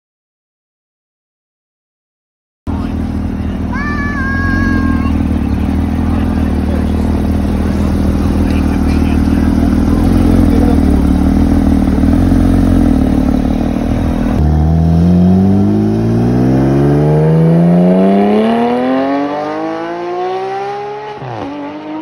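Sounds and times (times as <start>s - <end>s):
car engine rumbling: 2.7s - 21.8s
car accelerating hard: 2.7s - 22.0s.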